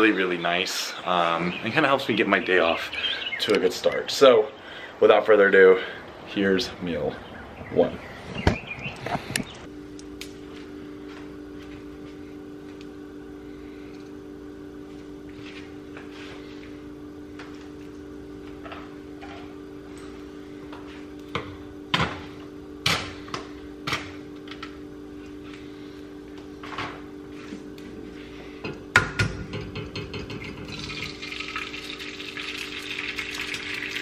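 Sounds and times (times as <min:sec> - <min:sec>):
low two-tone kitchen hum: 0:00.0 - 0:34.0.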